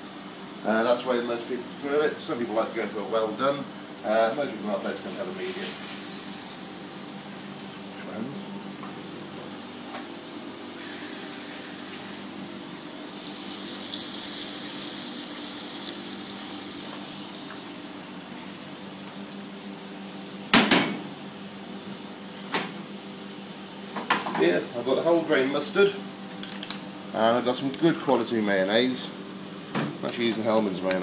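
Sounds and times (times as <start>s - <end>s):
steak sizzling in a pan: 0.0s - 31.0s.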